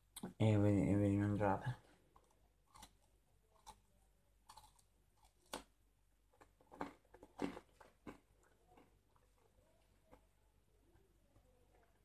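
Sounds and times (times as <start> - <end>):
faint crunchy chewing: 1.8 - 12.0.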